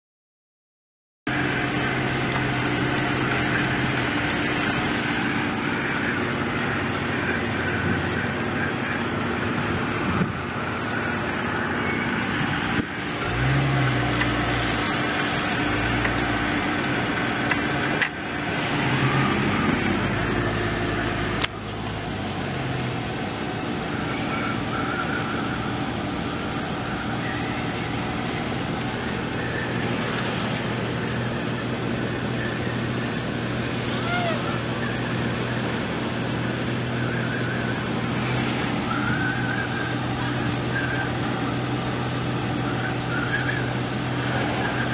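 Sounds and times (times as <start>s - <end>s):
car engine and road noise: 1.3s - 44.9s.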